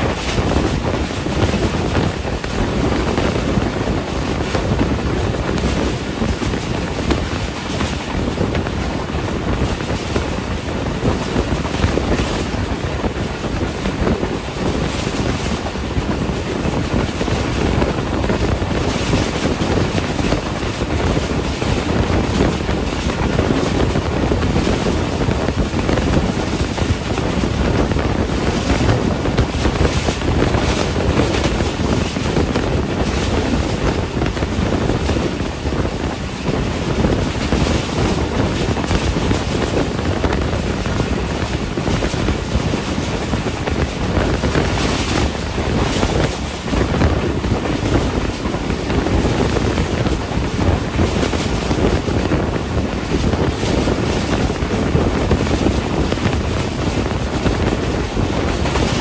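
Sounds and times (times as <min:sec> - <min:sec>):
train wheels rumbling on rails: 0:00.0 - 0:59.0
wind rushing on microphone: 0:00.0 - 0:59.0.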